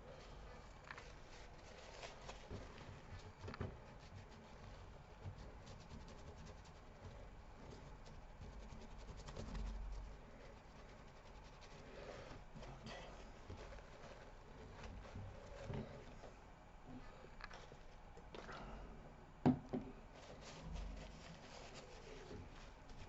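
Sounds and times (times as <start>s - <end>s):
faint rubbing and scratching: 0.0s - 18.5s, 20.0s - 23.0s.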